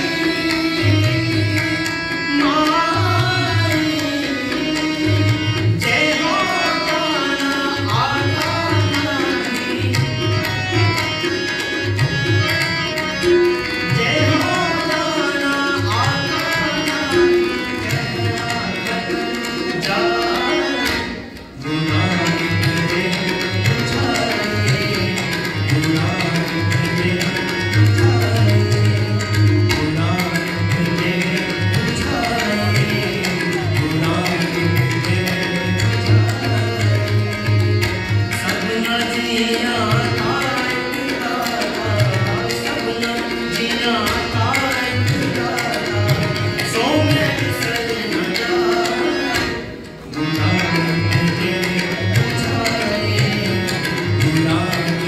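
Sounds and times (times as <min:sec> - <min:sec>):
harmonium: 0:00.0 - 0:55.0
tabla strokes: 0:00.0 - 0:55.0.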